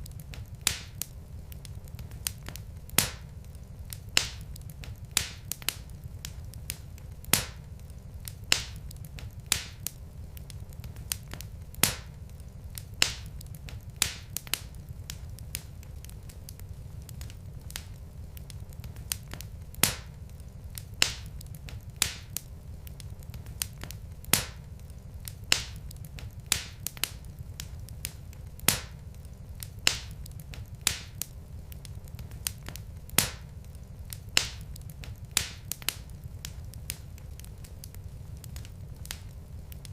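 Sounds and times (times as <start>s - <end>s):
logs crackling in fire: 0.0s - 39.9s
low steady rumble: 0.0s - 39.9s.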